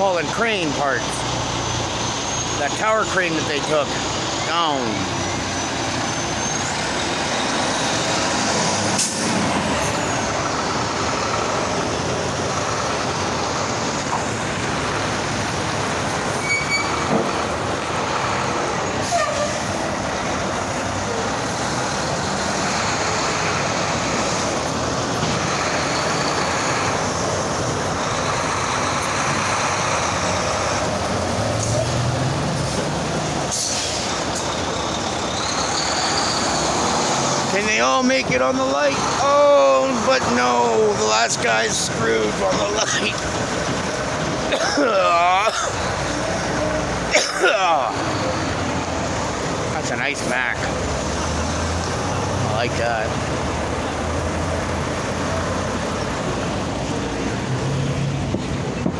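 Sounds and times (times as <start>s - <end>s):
heavy trucks driving past: 0.0s - 58.9s.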